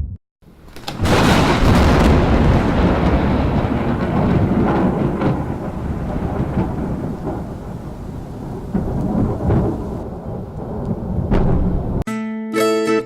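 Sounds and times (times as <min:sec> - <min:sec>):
deep rumbling with crackles: 0:00.0 - 0:12.0.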